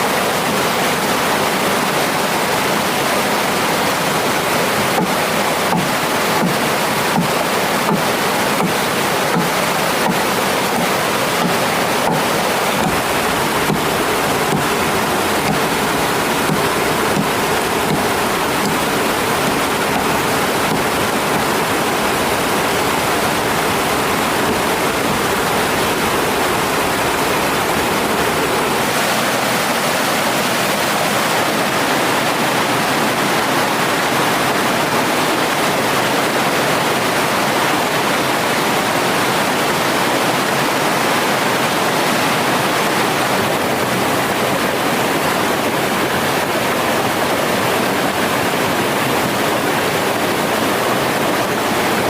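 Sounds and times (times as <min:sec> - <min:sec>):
stream rushing over rocks: 0:00.0 - 0:52.0.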